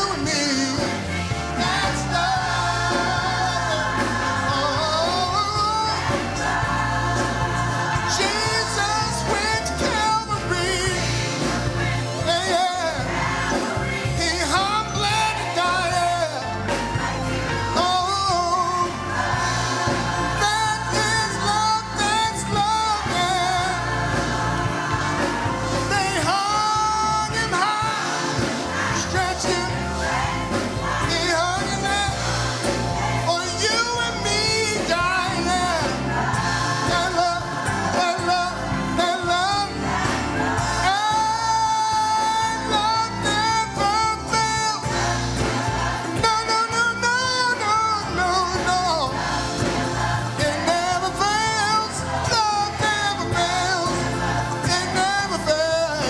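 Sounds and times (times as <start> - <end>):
gospel singing: 0.0 - 56.0
keyboard and bass accompaniment: 0.0 - 56.0.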